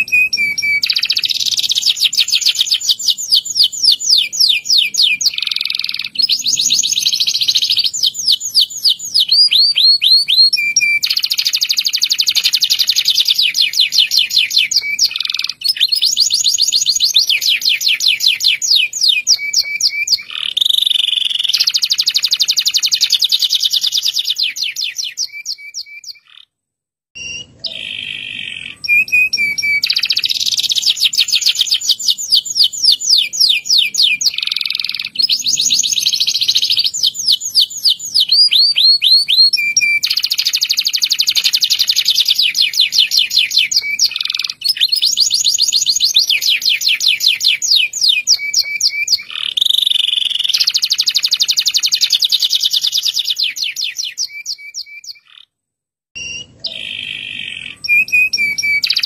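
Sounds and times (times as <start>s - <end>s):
canary singing rapid trills: 0.0s - 26.5s, 27.2s - 55.5s, 56.2s - 59.0s.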